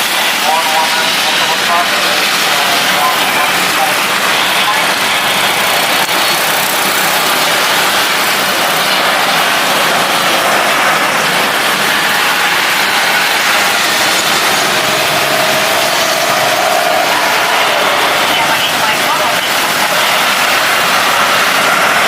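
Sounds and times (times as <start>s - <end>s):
faint engine whine: 0.0s - 22.0s
jet engines rushing: 0.0s - 22.0s.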